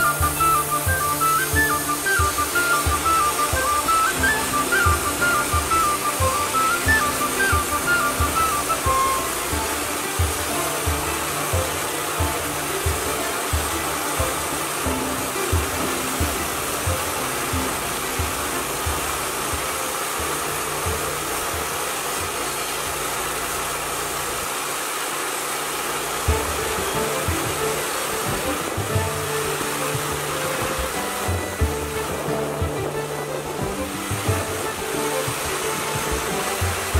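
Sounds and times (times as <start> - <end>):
background music with steady beat: 0.0 - 24.0, 26.0 - 36.9
band sawmill running: 0.0 - 36.9.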